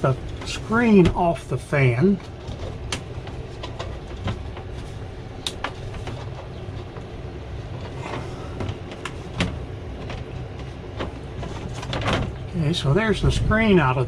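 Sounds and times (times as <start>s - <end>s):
roof vent fan humming: 0.0s - 14.0s.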